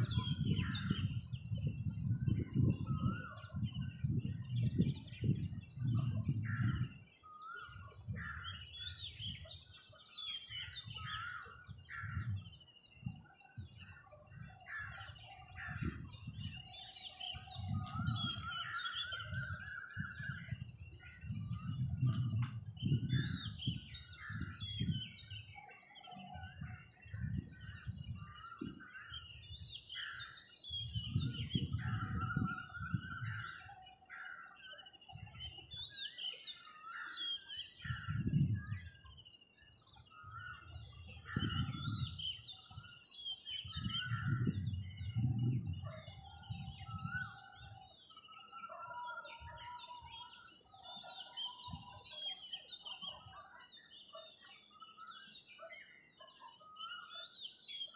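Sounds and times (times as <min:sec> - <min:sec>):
small birds chirping and trilling: 0:00.0 - 0:57.9.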